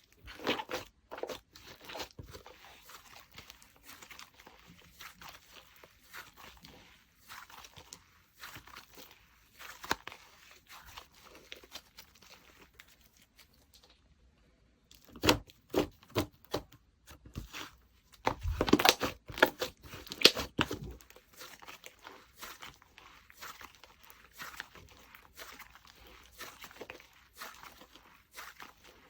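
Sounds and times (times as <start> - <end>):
slime squished by hand: 0.2 - 13.9, 17.4 - 29.0.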